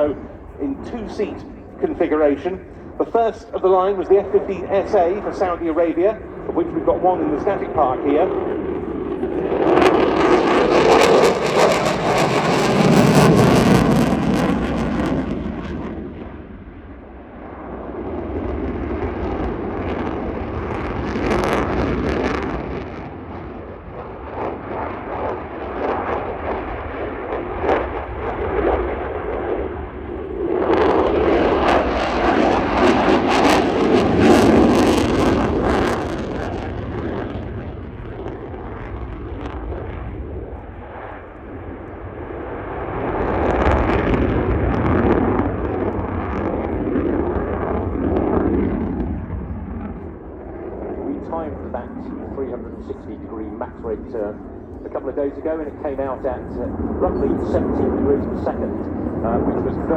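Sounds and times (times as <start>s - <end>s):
jet fighter engine noise: 0.0s - 59.9s.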